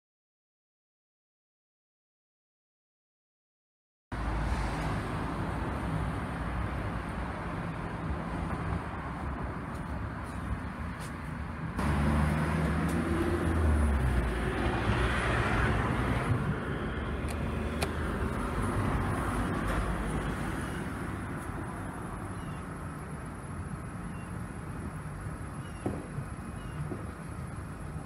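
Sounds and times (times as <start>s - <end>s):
vehicle engine rumbling: 4.2s - 28.0s.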